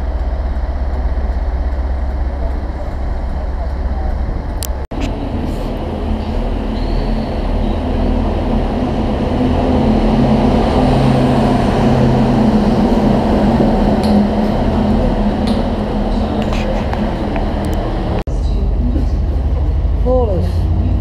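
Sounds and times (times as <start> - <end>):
diesel engine passing slowly: 0.0 - 21.0
wheel and rail noise: 0.0 - 21.0.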